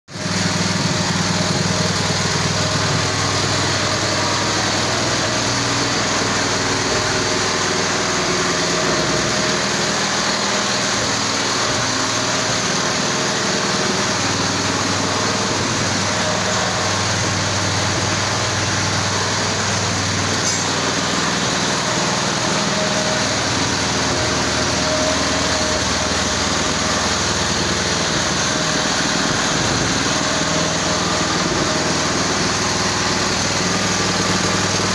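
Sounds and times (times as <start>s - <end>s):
small petrol engine running: 0.1s - 34.9s.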